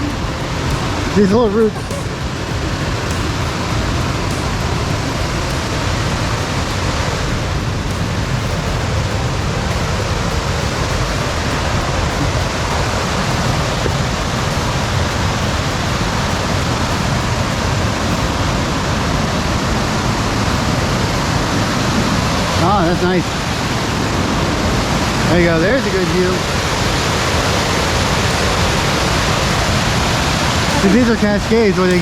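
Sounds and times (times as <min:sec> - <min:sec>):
creek water rushing over cascades: 0:00.0 - 0:32.0.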